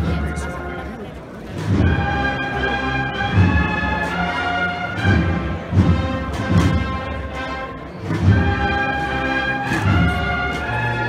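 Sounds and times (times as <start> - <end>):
brass chords: 0.0 - 11.0
low drum beats: 0.0 - 11.0.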